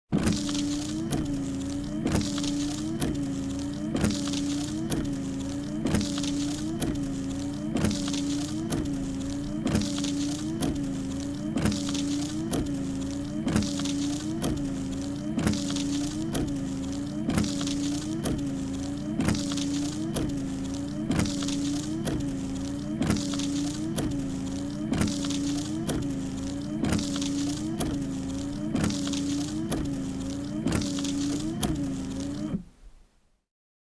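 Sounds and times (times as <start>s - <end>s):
wiper motor hum with clicks: 0.1s - 33.1s
wiper blades swishing on glass: 0.2s - 32.6s.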